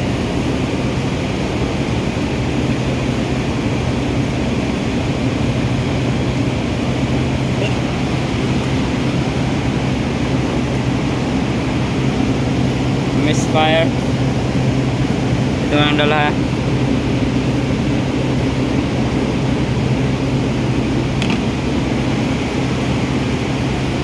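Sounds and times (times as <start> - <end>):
car engine idling with misfire: 0.0 - 24.0.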